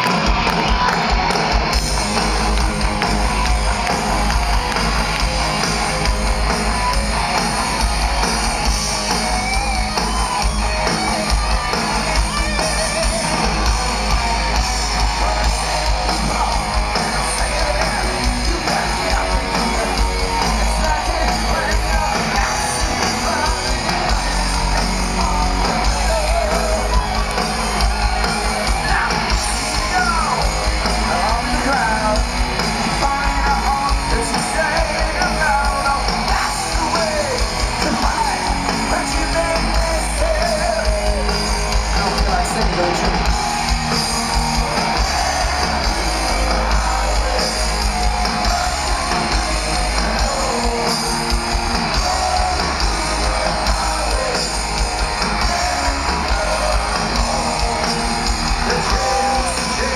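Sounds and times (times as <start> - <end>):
electric guitar: 0.0 - 59.9
heavy metal band playing live: 0.0 - 59.9.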